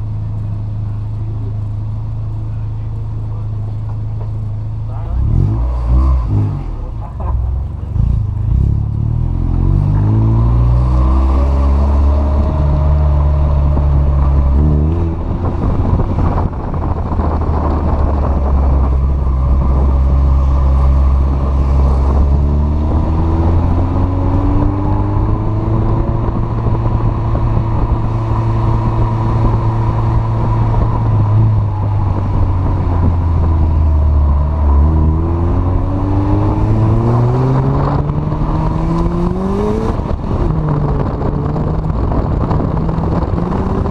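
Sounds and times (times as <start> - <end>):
car engine revving: 2.3 - 43.9.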